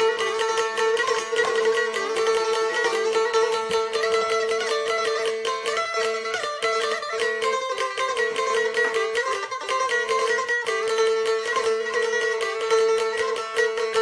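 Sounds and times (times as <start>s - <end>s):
plucked string instrument music: 0.0s - 14.0s.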